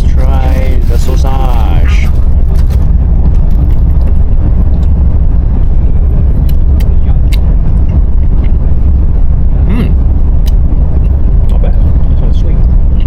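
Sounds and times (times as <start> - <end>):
high-speed train rumbling: 0.0 - 13.0.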